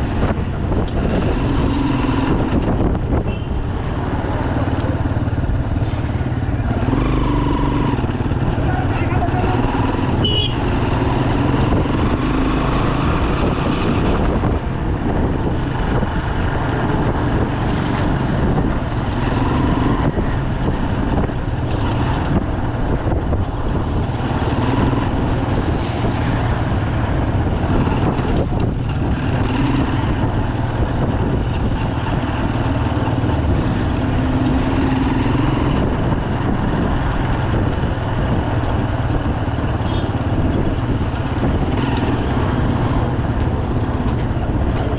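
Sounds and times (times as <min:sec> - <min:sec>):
motorcycle engine running: 0:00.0 - 0:25.3, 0:26.8 - 0:44.9
traffic noise: 0:00.0 - 0:44.9.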